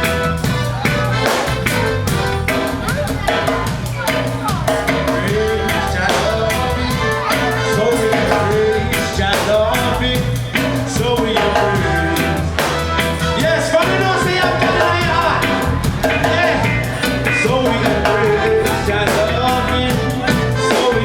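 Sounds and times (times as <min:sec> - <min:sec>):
live reggae band: 0:00.0 - 0:21.0.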